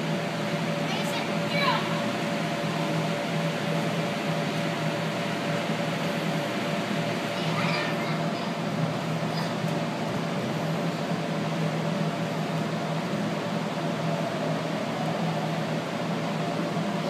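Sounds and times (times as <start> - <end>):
air blowers whirring hum: 0.0 - 17.0.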